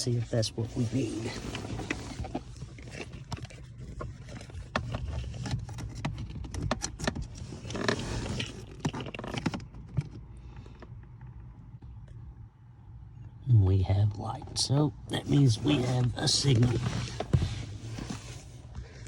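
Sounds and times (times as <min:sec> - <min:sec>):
handling scraping and rustling: 0:00.0 - 0:11.6, 0:15.2 - 0:19.0.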